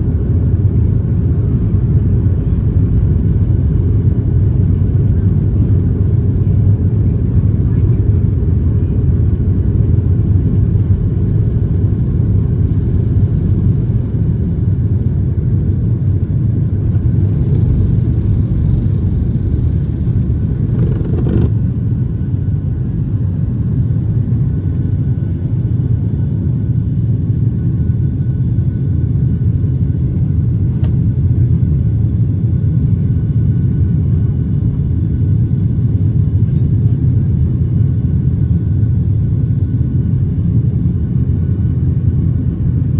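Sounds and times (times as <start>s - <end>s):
airplane cabin jet engine rumble: 0.0s - 42.9s.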